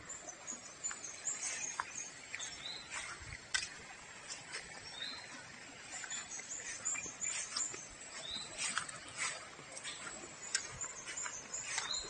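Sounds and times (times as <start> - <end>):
birds chirping: 0.0 - 12.0
faint steady outdoor hiss: 0.0 - 12.0.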